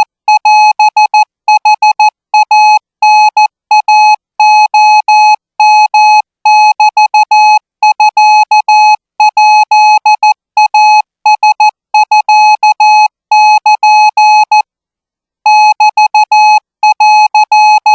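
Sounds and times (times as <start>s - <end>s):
morse code beeps: 0.0s - 14.6s, 15.5s - 17.9s.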